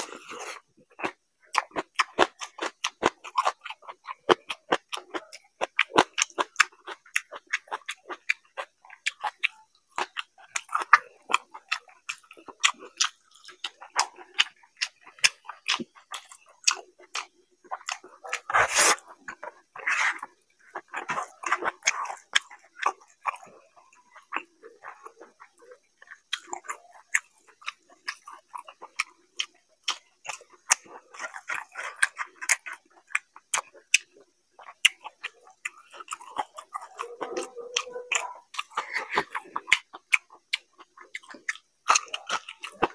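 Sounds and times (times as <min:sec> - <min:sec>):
close chewing with wet smacks: 0:00.0 - 0:42.9.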